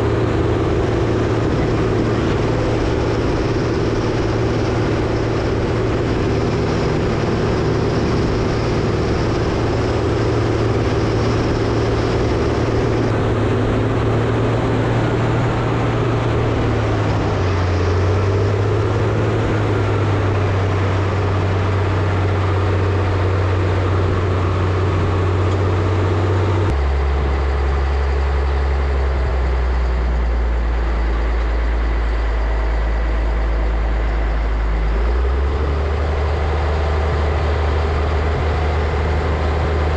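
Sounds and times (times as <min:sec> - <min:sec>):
diesel engines running under load: 0:00.0 - 0:39.9.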